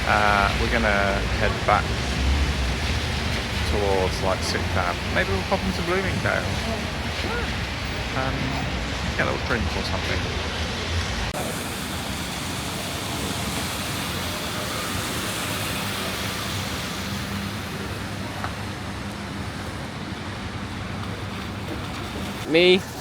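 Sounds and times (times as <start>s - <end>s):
road noise from passing vehicles: 0.0s - 23.0s.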